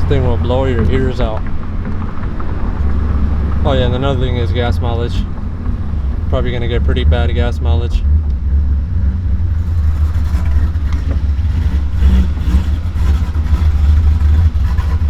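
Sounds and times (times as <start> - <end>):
choppy car engine idle: 0.0 - 15.0.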